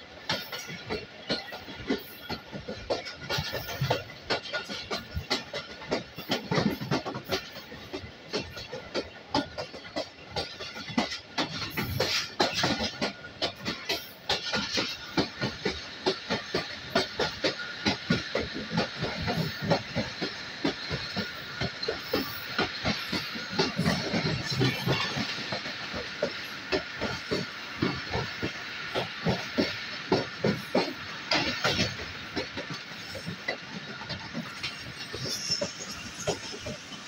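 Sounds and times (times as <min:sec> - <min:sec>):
train wheels clattering over track: 0:00.0 - 0:37.0.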